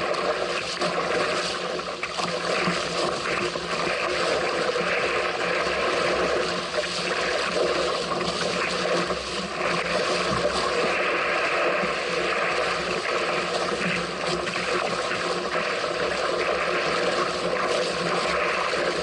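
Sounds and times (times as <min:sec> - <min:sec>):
water rushing along a hull: 0:00.0 - 0:19.0.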